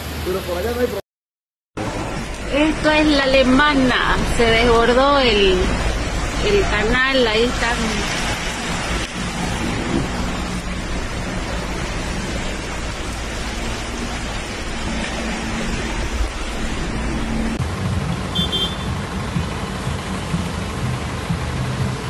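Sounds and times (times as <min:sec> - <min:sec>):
rain hissing: 0:01.8 - 0:22.0
running floodwater: 0:01.8 - 0:22.0.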